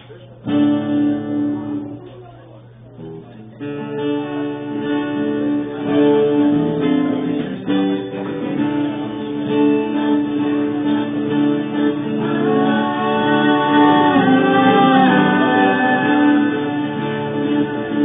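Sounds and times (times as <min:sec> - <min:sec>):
acoustic guitar strumming chords: 0:00.0 - 0:18.0
higher guitar melody: 0:00.0 - 0:18.0.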